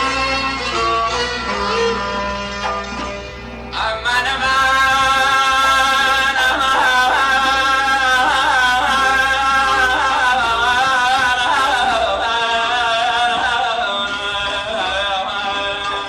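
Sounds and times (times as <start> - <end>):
middle eastern background music: 0.0 - 16.0.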